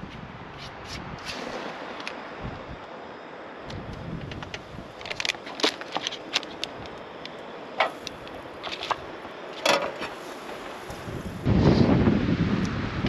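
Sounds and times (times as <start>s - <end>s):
wind buffeting microphone: 0.0s - 2.9s, 3.5s - 13.0s.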